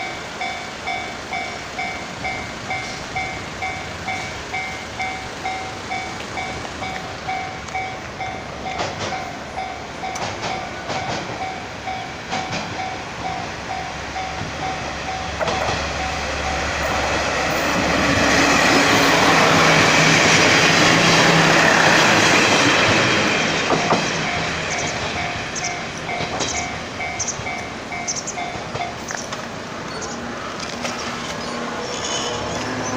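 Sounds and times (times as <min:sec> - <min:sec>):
train rumble and wheel clatter: 0:00.0 - 0:32.9.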